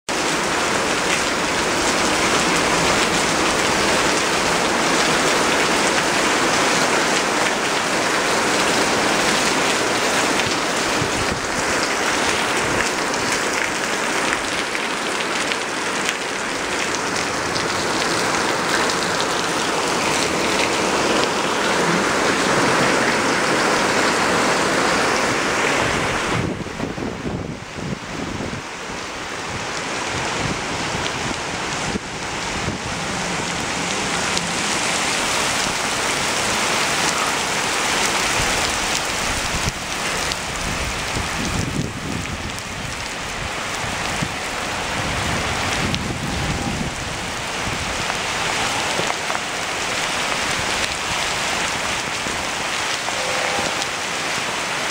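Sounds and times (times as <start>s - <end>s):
heavy rain on pavers and plants: 0.1s - 54.9s.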